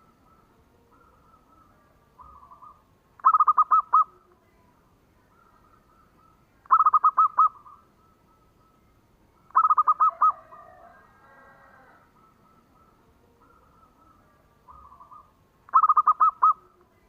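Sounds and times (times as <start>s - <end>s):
dove cooing: 0.0s - 4.3s, 5.2s - 8.8s, 9.4s - 17.0s
faint bird warbling: 0.0s - 17.0s.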